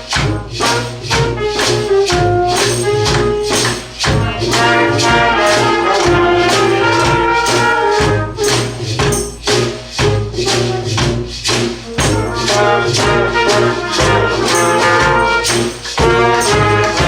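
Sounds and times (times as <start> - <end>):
street band horns and drums: 0.0 - 17.0.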